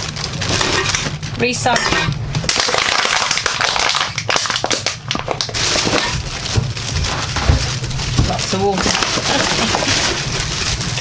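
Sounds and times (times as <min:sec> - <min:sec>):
plastic bag crinkling: 0:00.0 - 0:01.2, 0:02.5 - 0:11.0.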